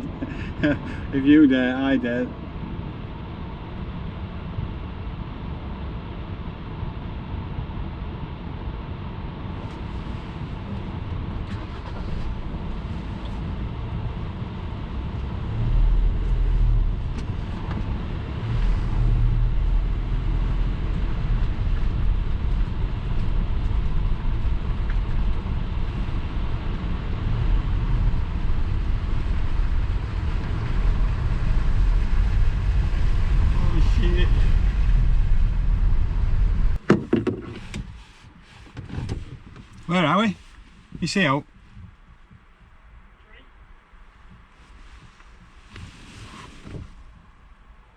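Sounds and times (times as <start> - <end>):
car engine and tyres rumbling: 0.0 - 47.9
road noise: 0.0 - 47.9.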